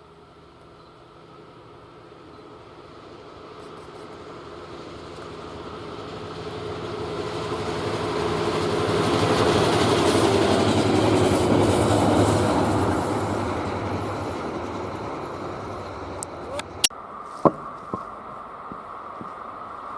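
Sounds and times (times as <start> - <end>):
freight train passing: 0.0 - 16.9.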